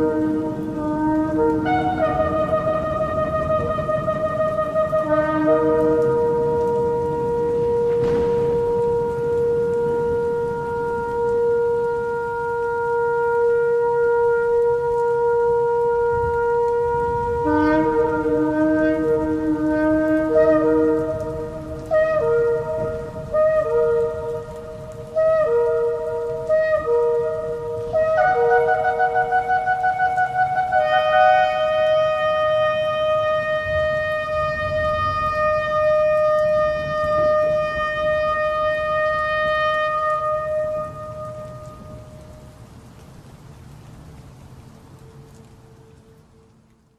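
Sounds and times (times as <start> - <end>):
shofar blasts: 0.0 - 42.6.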